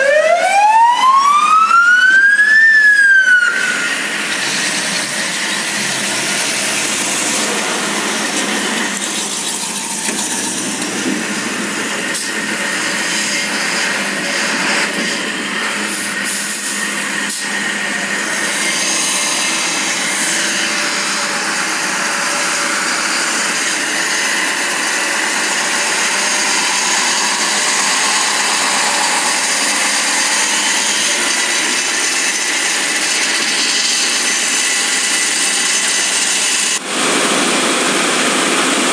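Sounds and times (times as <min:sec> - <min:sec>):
diesel engine running: 0:02.9 - 0:38.9.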